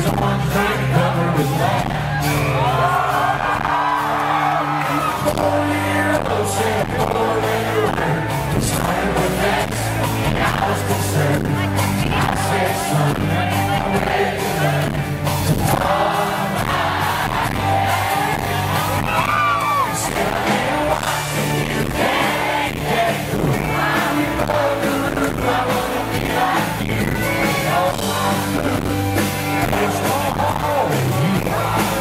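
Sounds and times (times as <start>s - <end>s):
bass line: 0.0s - 32.0s
guitar: 0.0s - 32.0s
man singing: 0.0s - 32.0s.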